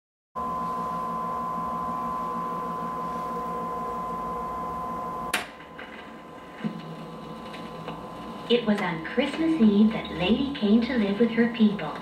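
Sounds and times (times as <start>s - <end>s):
steady droning tone: 0.4s - 12.0s.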